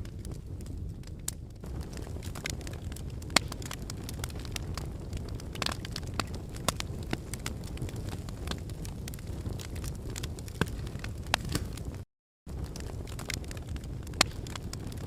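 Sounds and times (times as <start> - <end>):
fire crackling and popping: 0.0 - 15.0
low rumble of flame: 0.0 - 15.0.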